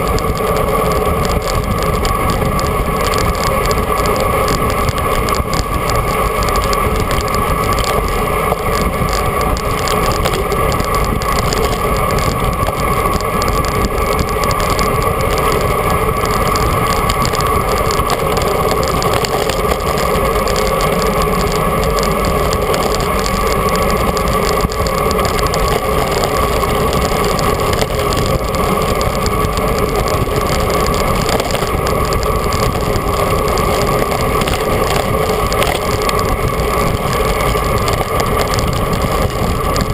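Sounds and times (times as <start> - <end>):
road noise: 0.0 - 39.9
rushing wind: 0.0 - 39.9.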